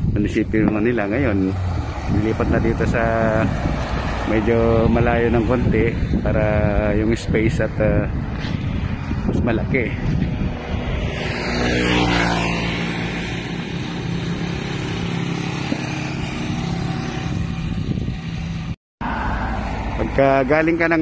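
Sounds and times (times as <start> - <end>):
vehicle engines running: 0.0 - 21.0
vehicle passing: 0.8 - 21.0.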